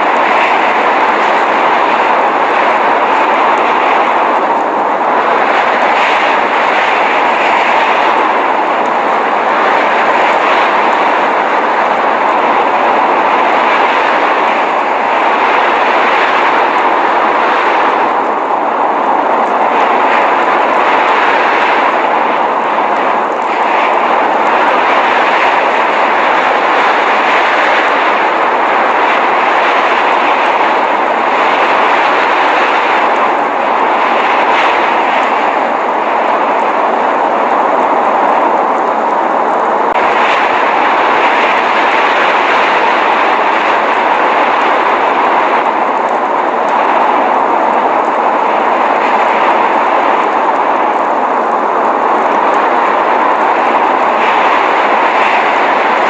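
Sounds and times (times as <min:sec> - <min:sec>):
blizzard rushing hiss: 0:00.0 - 0:56.0.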